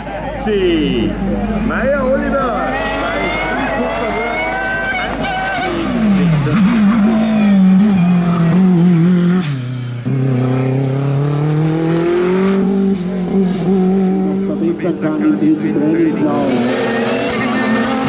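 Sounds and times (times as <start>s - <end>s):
rally car engine revving: 1.4s - 18.0s.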